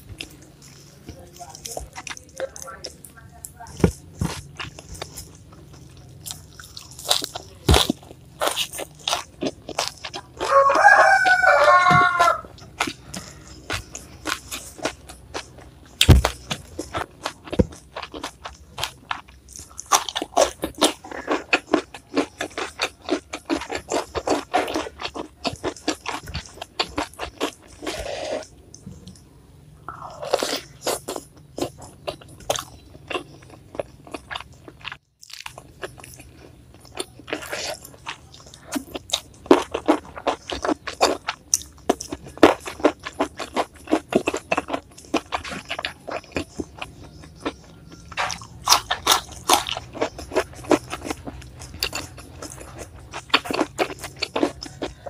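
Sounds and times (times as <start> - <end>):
crunching raw vegetables: 0.0 - 55.0.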